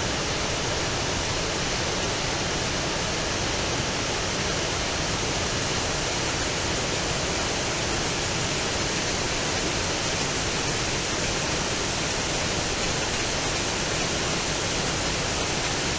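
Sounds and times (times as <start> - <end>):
river rapids rushing: 0.0 - 15.9.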